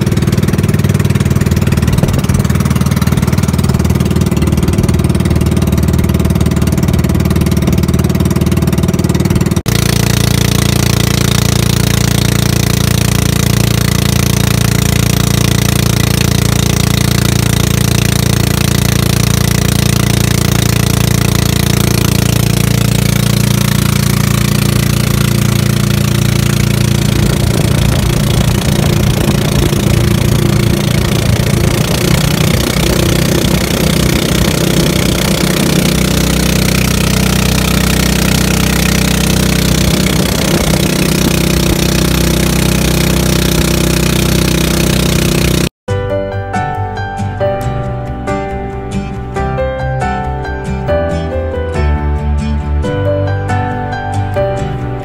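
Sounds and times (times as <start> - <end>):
boat engine running: 0.0 - 45.8
wind: 0.0 - 45.8.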